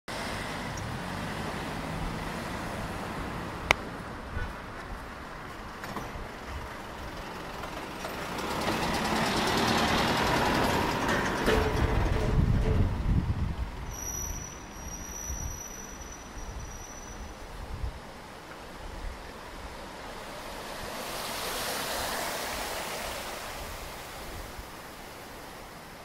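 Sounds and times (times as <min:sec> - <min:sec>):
bus passing close by: 0:00.1 - 0:26.0
street traffic: 0:00.1 - 0:26.0.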